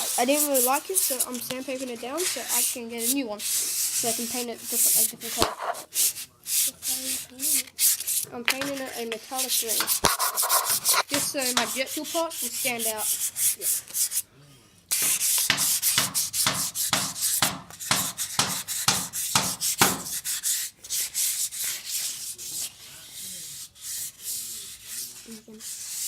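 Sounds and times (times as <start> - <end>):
sandpaper rubbing on metal: 0.0 - 14.2, 14.9 - 26.0.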